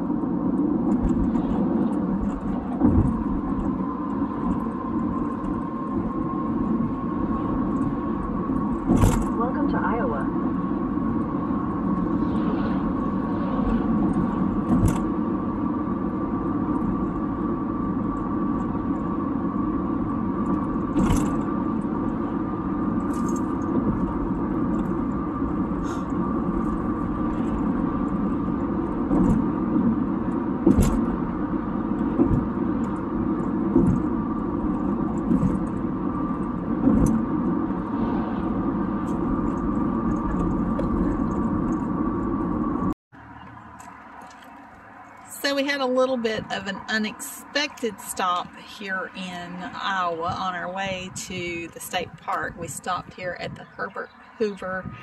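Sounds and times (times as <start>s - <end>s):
road and tyre noise in car: 0.0s - 55.0s.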